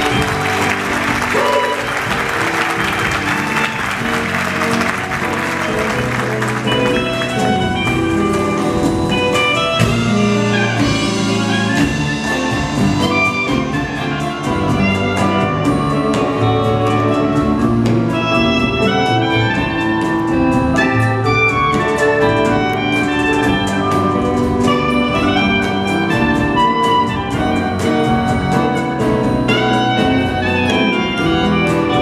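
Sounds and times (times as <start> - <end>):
orchestra playing: 0.0 - 32.0
steady drum beat: 0.0 - 32.0.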